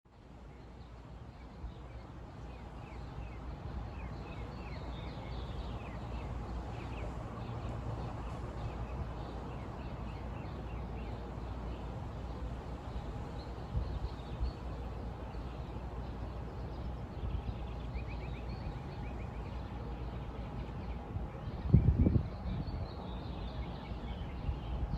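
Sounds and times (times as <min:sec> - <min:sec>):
birds chirping: 0:02.6 - 0:24.9.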